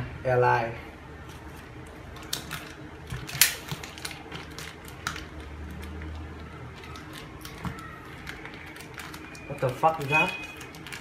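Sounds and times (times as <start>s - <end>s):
parcel clicks and rustles: 1.3s - 11.0s.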